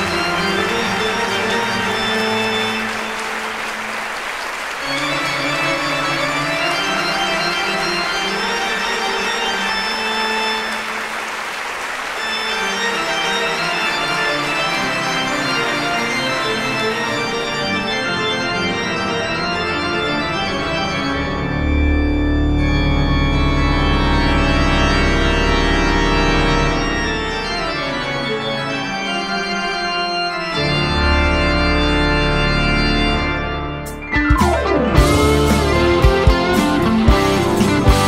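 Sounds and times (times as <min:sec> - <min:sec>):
organ sustained chords: 0:00.0 - 0:38.0.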